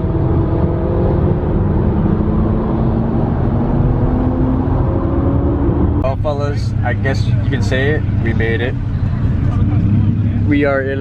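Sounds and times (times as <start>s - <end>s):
car engine hum: 0.0s - 11.0s
road and wind noise: 0.0s - 11.0s.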